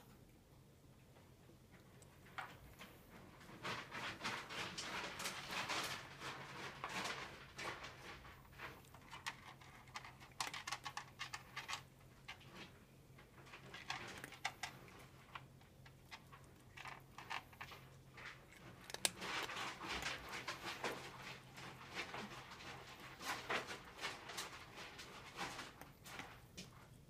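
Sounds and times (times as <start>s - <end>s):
cat chewing crunchy treats: 1.5s - 27.0s.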